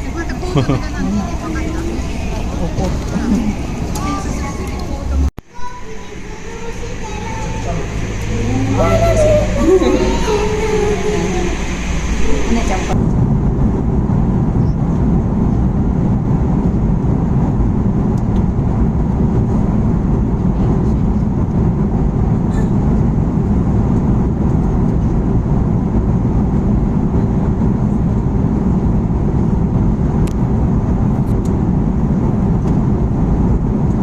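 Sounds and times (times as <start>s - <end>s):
vehicle low rumble: 0.0s - 34.0s.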